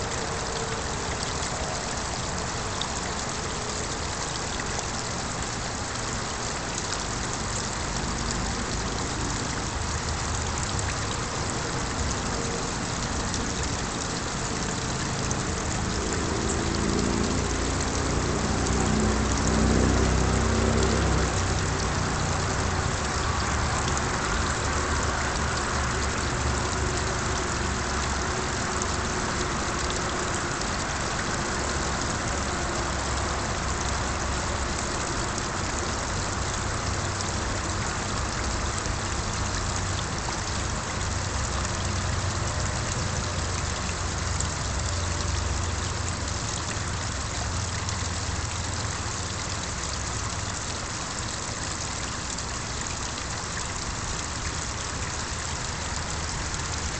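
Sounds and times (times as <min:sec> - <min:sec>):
waterfall splashing into pond: 0:00.0 - 0:56.9.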